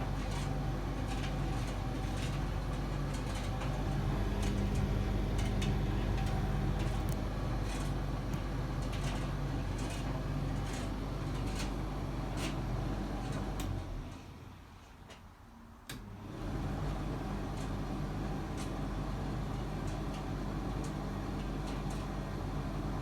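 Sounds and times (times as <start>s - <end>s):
tumble dryer motor hum: 0.0s - 14.5s, 15.9s - 23.0s.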